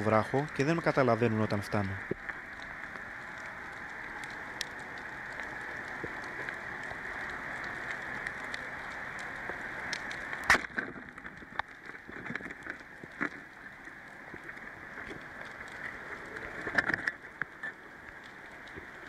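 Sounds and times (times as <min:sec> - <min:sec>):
faint clicks: 0:00.4 - 0:19.0.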